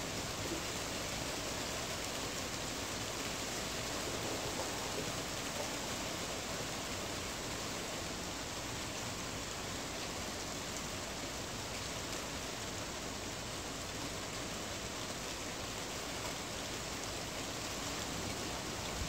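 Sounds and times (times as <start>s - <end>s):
rain on a tin roof: 0.0s - 19.0s.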